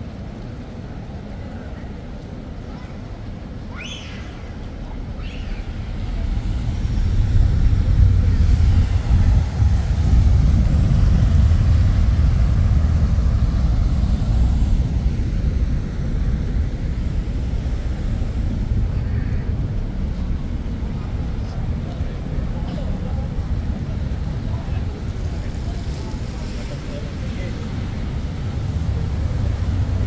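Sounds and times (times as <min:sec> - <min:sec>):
vehicle rumbling in motion: 0:00.0 - 0:30.0.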